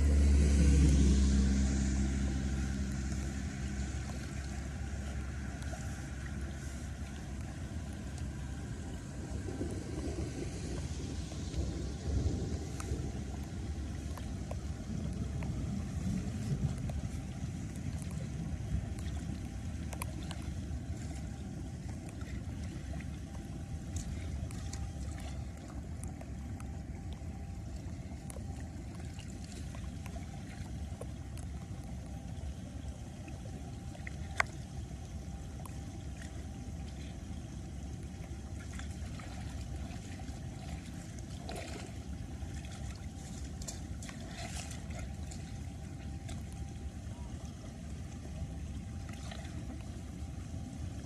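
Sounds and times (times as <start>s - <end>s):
wind rumble on microphone: 0.0s - 51.0s.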